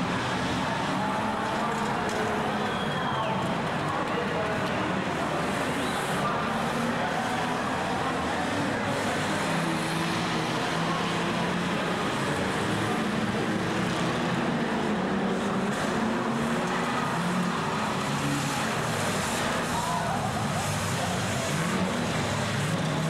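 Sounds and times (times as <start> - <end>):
racing car engines revving: 0.0 - 23.0.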